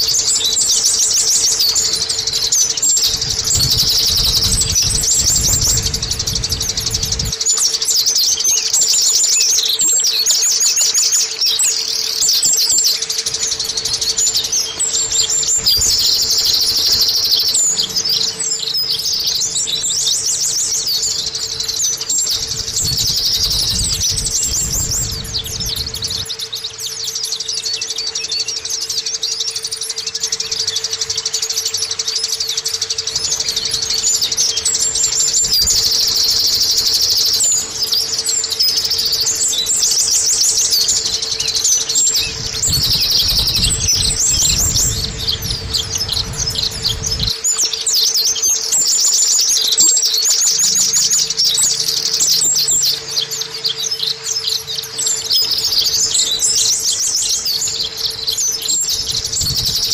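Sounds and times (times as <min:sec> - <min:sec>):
bird twittering song: 0:00.0 - 0:59.9
faint steady hum: 0:00.0 - 0:59.9.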